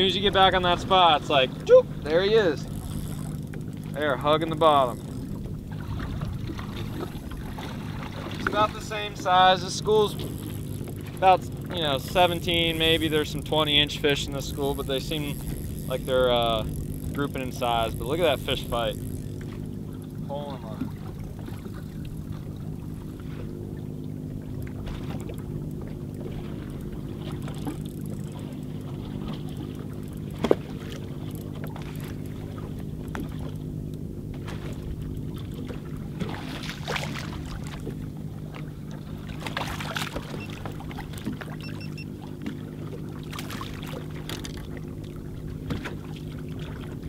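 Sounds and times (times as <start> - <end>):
boat motor idling: 0.0 - 47.0.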